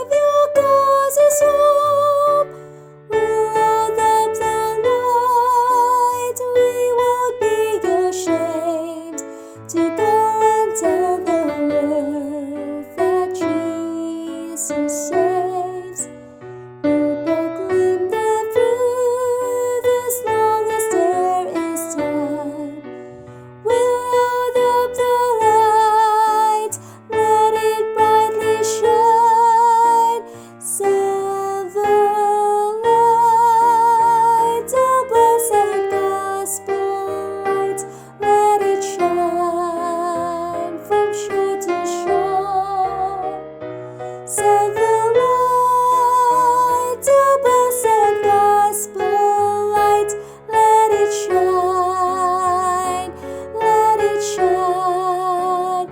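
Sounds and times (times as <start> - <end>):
woman singing a hymn: 0.0 - 16.2, 16.8 - 23.0, 23.6 - 55.9
piano accompaniment: 0.0 - 55.9.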